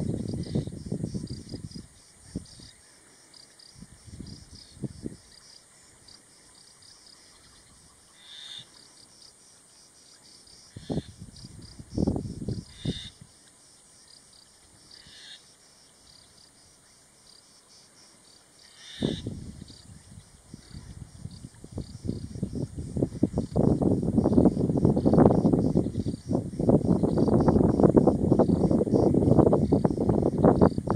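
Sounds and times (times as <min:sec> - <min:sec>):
insects chirping: 0:00.0 - 0:30.9.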